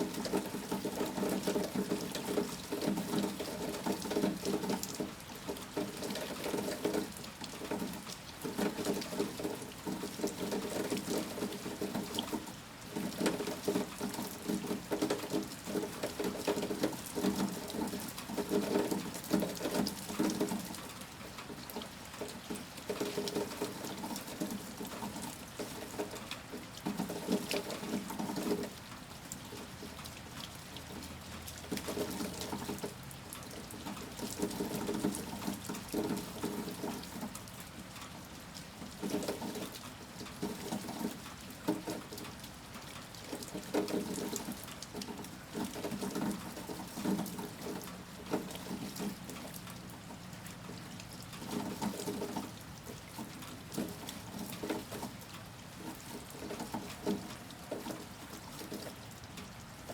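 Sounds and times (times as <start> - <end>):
heavy rain pattering: 0.0 - 59.9
running water splashing: 0.1 - 59.9.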